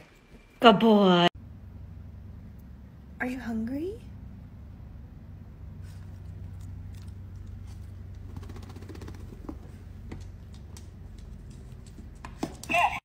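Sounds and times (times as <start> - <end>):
low hum: 1.4 - 12.2.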